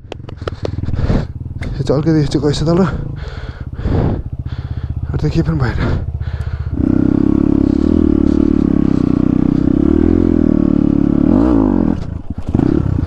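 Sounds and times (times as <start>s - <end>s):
dirt bike engine revving: 0.1s - 13.0s.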